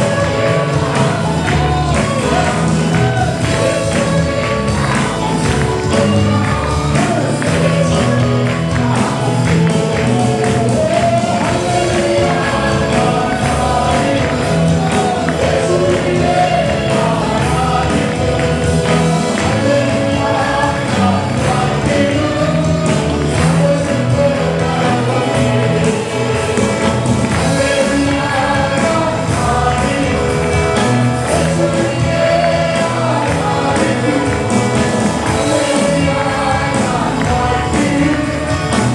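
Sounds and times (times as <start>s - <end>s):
band with steady bass line: 0.0s - 38.9s
group of voices singing: 0.0s - 38.9s.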